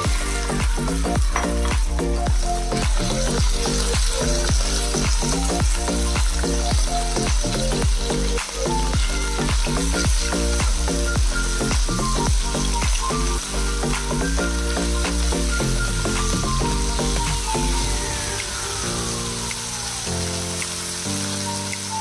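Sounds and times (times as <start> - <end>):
background music with steady beat: 0.0 - 22.0
meat sizzling in a wok: 0.0 - 22.0.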